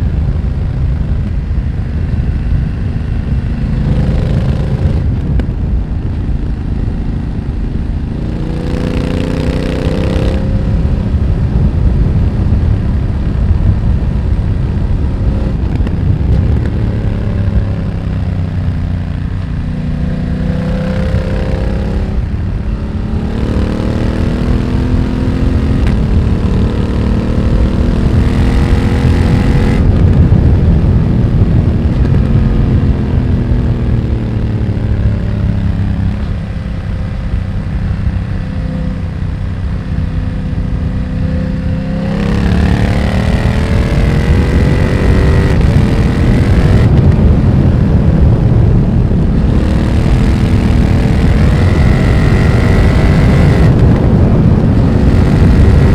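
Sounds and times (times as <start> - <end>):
low wind rumble: 0.0 - 55.9
motorcycle engine revving: 0.0 - 55.9.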